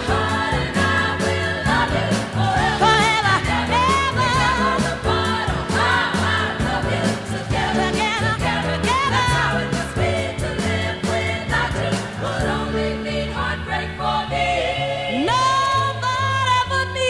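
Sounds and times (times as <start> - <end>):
song with choir-like vocals: 0.0 - 17.0.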